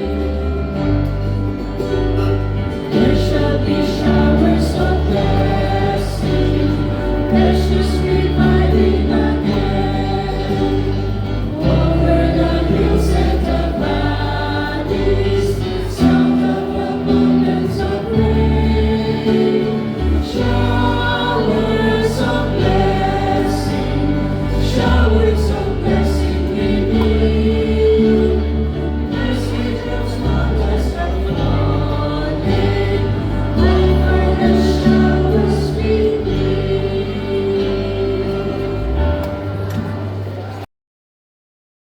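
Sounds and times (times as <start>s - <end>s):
choir singing a hymn: 0.0s - 40.6s.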